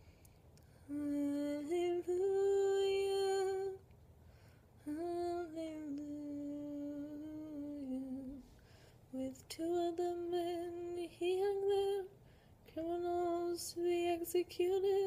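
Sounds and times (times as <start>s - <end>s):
woman singing unaccompanied: 0.8s - 3.8s, 4.8s - 8.5s, 9.1s - 15.0s.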